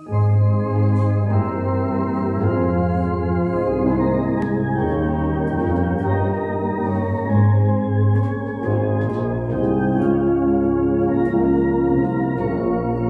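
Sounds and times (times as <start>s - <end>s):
tuba playing a slow hymn: 0.0s - 13.0s.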